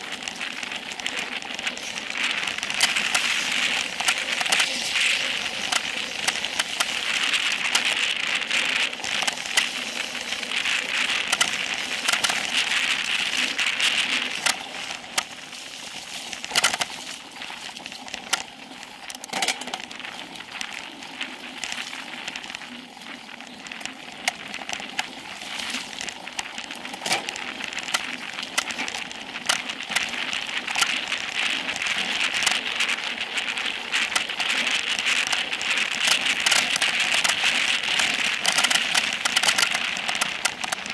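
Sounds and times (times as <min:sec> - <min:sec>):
bike clicking and rattling: 0:00.0 - 0:40.9
tyres rushing on dirt trail: 0:00.0 - 0:40.9
wind: 0:00.0 - 0:40.9.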